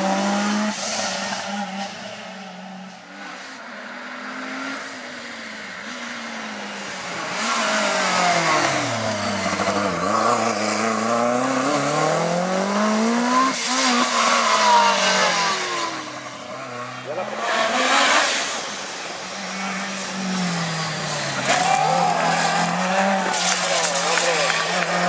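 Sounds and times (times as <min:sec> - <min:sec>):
rally car engine accelerating: 0:00.0 - 0:25.0.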